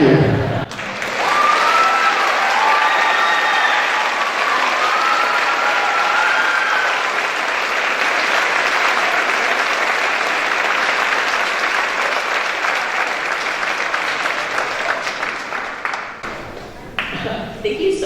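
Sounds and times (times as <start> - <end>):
audience applauding: 0.6 - 17.3.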